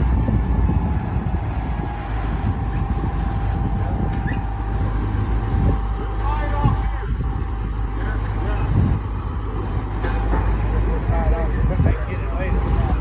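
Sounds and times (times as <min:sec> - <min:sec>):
crane engine rumbling: 0:00.0 - 0:13.0.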